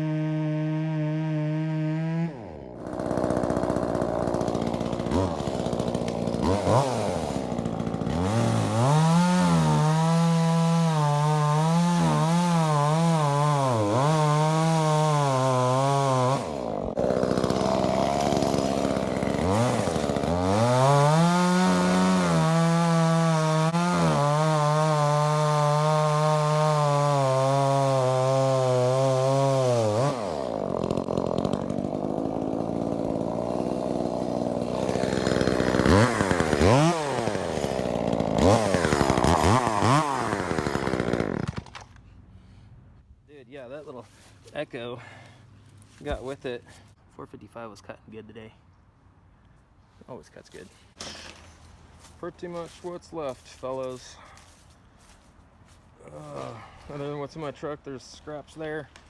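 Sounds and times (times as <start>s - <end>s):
chainsaw revving: 0.0s - 42.0s, 50.5s - 58.9s
chainsaw cutting through wood: 0.0s - 42.6s, 43.7s - 47.0s, 50.1s - 59.0s.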